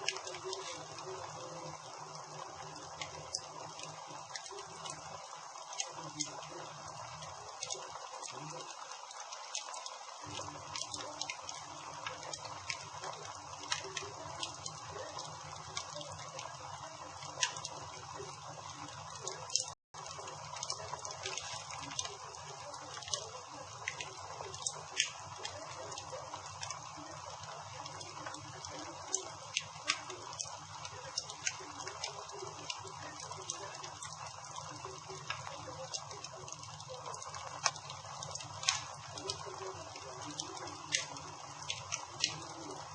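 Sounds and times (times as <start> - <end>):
campfire hissing: 0.0 - 42.9
fire crackling and popping: 0.0 - 42.9.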